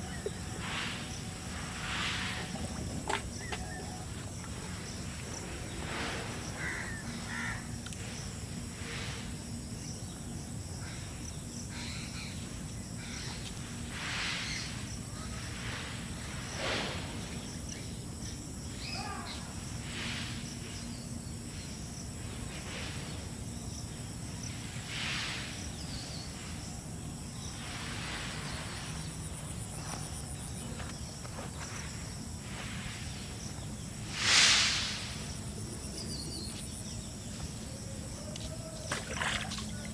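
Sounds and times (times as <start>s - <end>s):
constant hiss: 0.0s - 39.9s
high thin insect drone: 0.0s - 39.9s.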